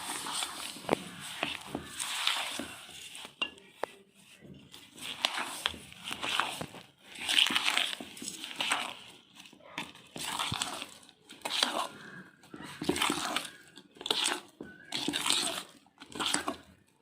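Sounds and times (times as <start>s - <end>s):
gritty scraping in a bowl: 0.0s - 17.0s.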